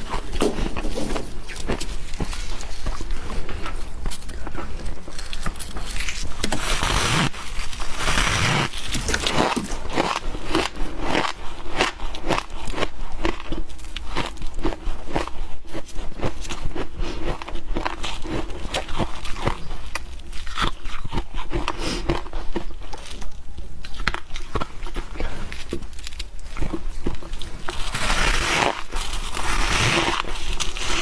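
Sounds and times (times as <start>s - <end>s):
person crunching ice: 0.0s - 23.2s, 23.8s - 31.0s.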